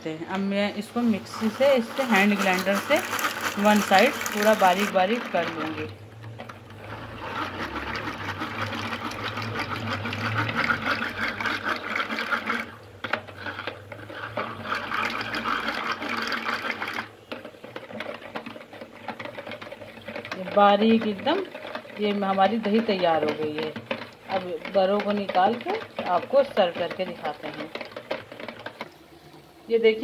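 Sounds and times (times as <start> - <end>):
electric hand mixer running: 0.8 - 30.0.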